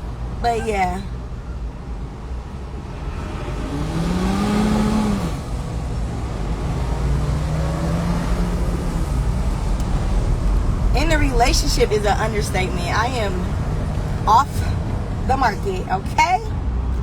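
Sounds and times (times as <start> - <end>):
car engine: 0.0 - 17.0
road rumble: 0.0 - 17.0.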